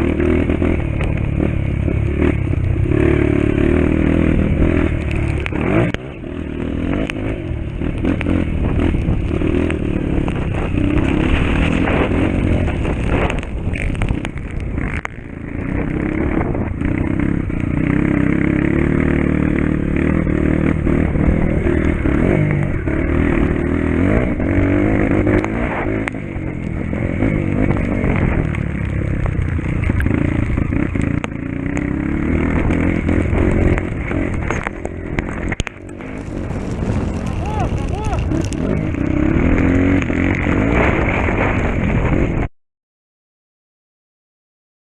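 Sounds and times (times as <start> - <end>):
motorcycle engine revving: 0.0 - 42.5.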